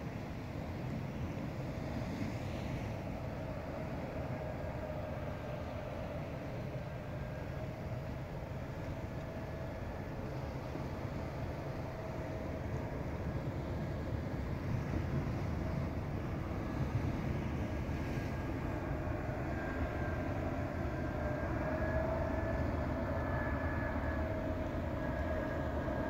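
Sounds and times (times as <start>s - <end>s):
distant jet engine rumble: 0.0s - 26.0s
faint engine whine: 0.0s - 26.0s.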